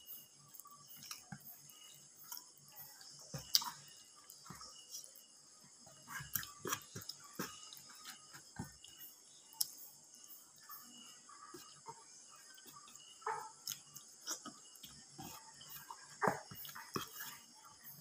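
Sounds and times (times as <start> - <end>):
chewing and mouth sounds: 0.5 - 5.2, 5.9 - 9.9, 11.4 - 18.0.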